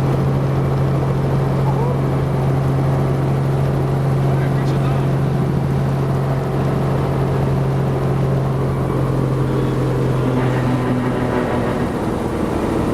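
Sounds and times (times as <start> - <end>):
helicopter engine and rotors: 0.0 - 12.9.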